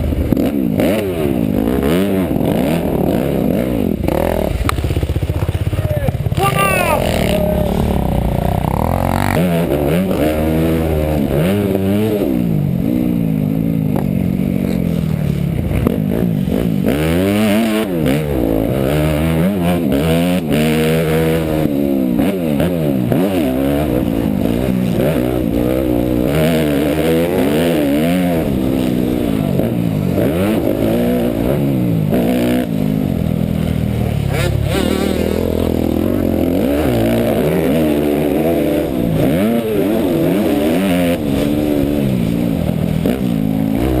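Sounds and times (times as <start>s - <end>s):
motocross bike engine revving: 0.0s - 44.0s.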